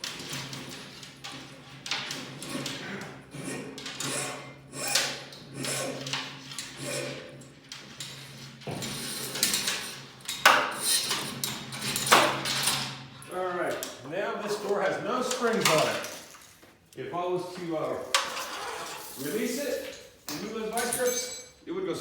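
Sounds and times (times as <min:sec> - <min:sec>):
garage door hardware scraping: 0:00.0 - 0:16.5, 0:17.6 - 0:21.1.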